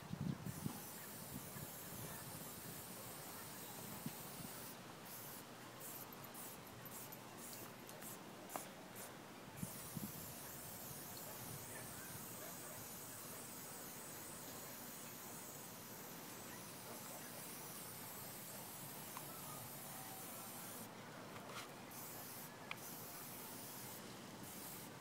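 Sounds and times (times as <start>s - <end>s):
spray paint can hissing: 0.5s - 20.9s, 21.9s - 25.0s.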